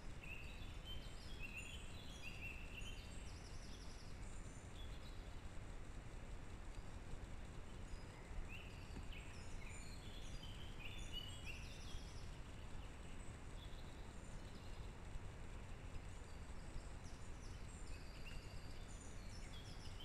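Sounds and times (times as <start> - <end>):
low background rumble: 0.0 - 20.0
small bird chirping: 0.1 - 5.4, 6.6 - 20.0.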